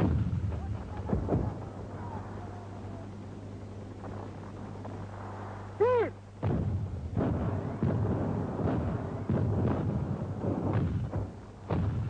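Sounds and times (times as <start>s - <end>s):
gunfire and explosions booming: 0.0s - 12.0s
low hum: 0.0s - 12.0s.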